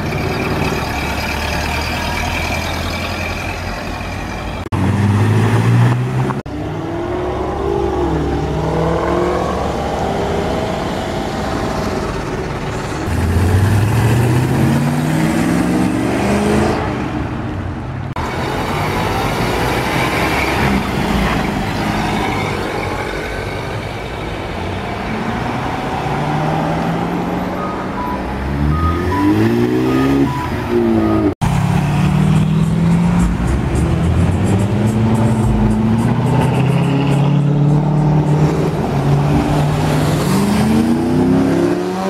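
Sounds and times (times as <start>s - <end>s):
car engines accelerating: 0.0s - 42.0s.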